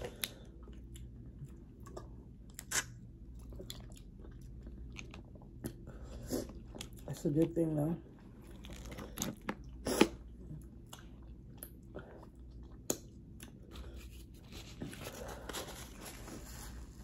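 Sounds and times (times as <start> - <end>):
person chewing and crunching: 0.0 - 7.6, 8.3 - 17.0.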